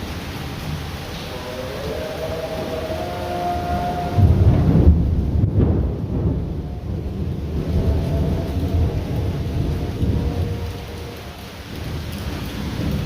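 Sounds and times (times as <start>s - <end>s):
heavy rain: 0.0s - 13.0s
low rumble of thunder: 1.9s - 13.0s.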